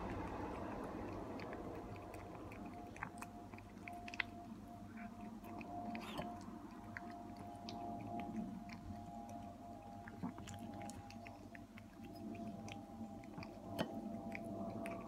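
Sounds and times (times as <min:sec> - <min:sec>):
cat chewing and licking: 0:00.0 - 0:15.0.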